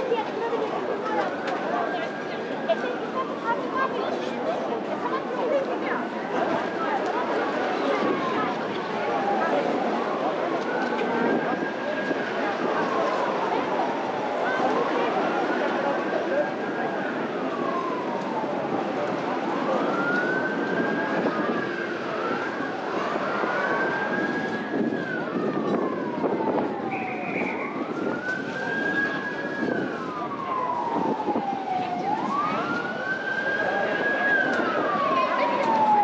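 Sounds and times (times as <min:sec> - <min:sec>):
street noise: 0:00.0 - 0:36.0
siren wailing: 0:00.1 - 0:36.0.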